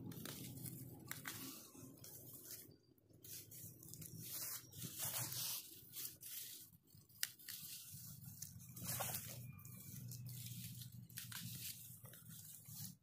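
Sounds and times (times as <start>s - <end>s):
fern fronds rustling: 0.0s - 13.0s.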